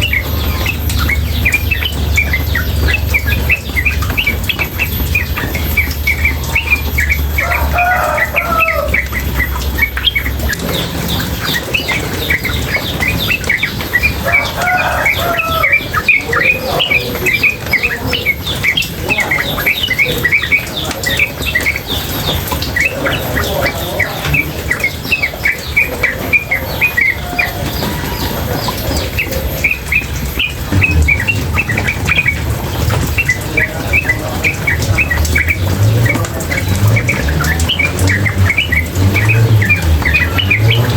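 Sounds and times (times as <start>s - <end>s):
bird chirping: 0.0s - 40.9s
running water: 0.0s - 40.9s.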